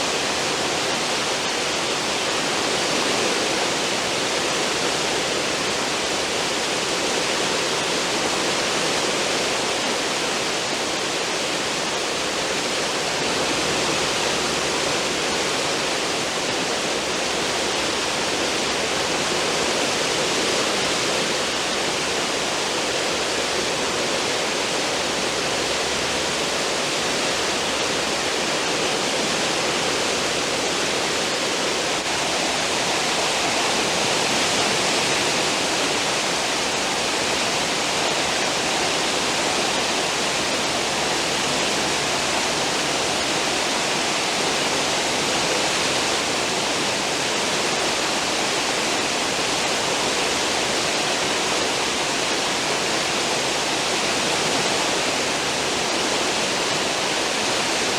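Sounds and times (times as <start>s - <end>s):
rush of churned water: 0.0s - 57.9s.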